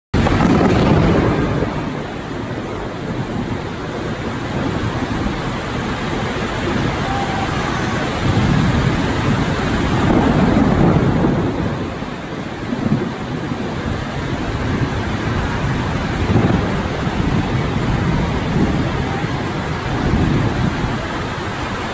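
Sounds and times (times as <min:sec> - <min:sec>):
heavy rain pouring: 0:00.1 - 0:21.9
thunder rumbling: 0:00.1 - 0:21.9.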